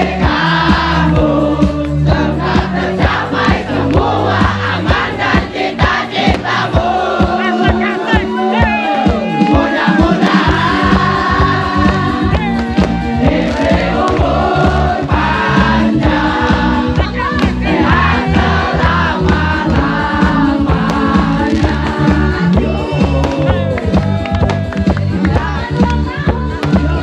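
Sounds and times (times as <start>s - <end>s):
several voices singing: 0.0s - 27.0s
steady beat: 0.0s - 27.0s.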